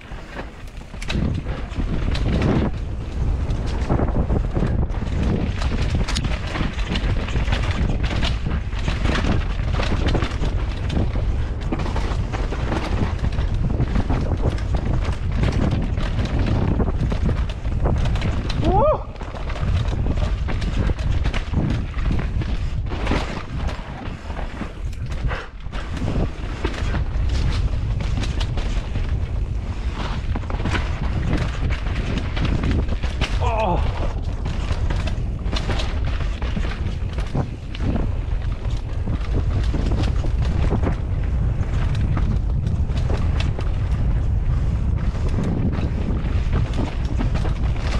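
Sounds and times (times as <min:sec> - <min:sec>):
bike clattering over bumps: 0:00.0 - 0:47.9
tyres running over loose dirt: 0:00.0 - 0:47.9
wind buffeting microphone: 0:00.0 - 0:47.9.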